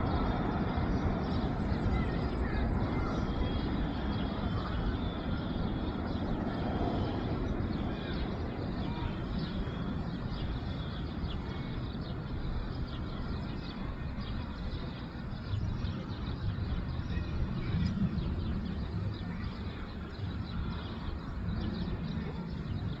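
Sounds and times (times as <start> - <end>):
distant jet engines rumbling: 0.0 - 23.0.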